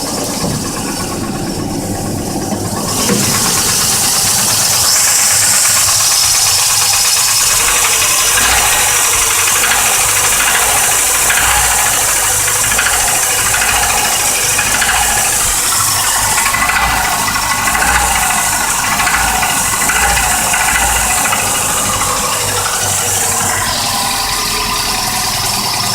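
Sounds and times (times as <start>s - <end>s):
car engine idling: 0.0s - 25.9s
engine knocking rattle: 0.0s - 25.9s.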